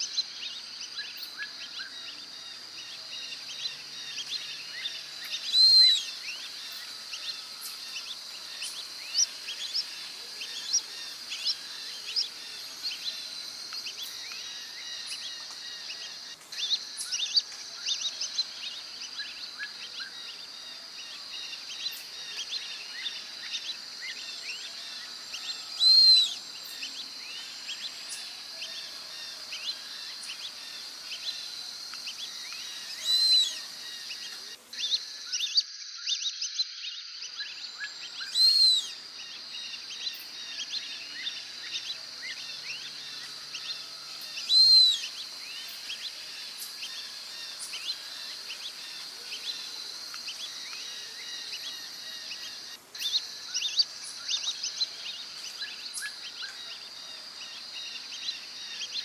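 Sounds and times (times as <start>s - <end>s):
steady high hiss: 0.0s - 36.0s, 36.7s - 59.0s
birds chirping: 0.0s - 59.0s.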